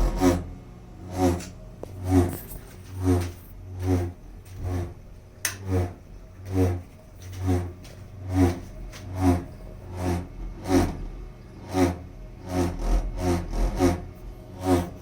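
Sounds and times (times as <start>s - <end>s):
boiler pulsing vibration: 0.0s - 15.0s
steady low hum: 0.0s - 15.0s.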